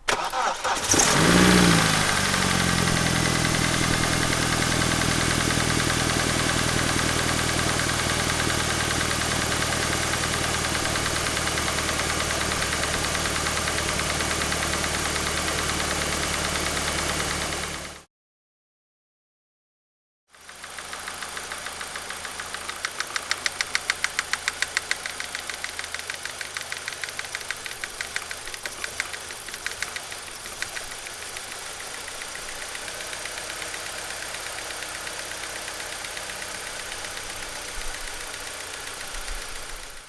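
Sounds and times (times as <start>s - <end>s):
car engine idling: 0.1s - 18.0s, 20.4s - 40.0s.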